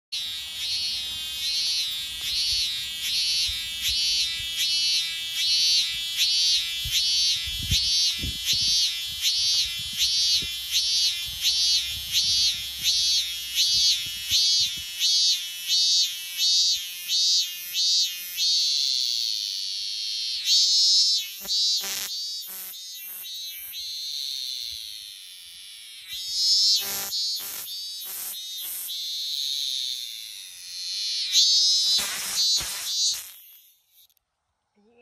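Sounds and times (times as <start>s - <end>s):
cicada singing: 0.1s - 34.2s.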